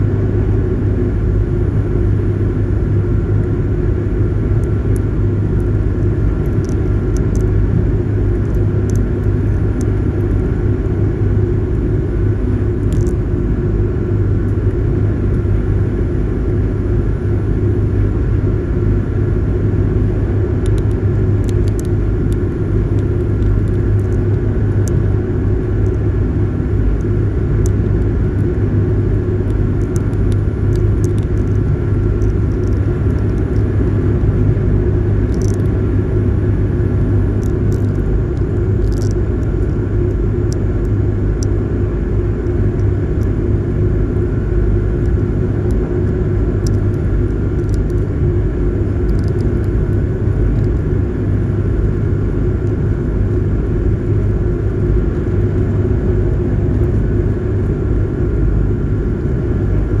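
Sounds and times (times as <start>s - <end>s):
faint steady hum: 0.0s - 60.0s.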